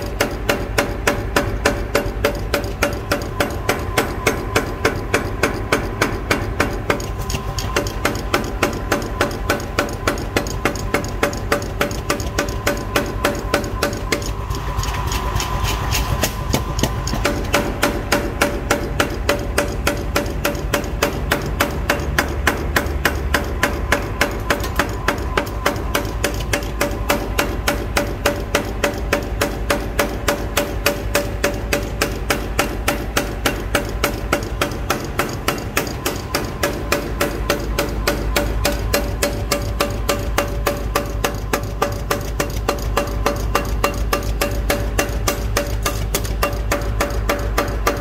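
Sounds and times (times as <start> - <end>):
constant machine hum: 0.0 - 48.0
power hammer striking steel: 0.0 - 48.0.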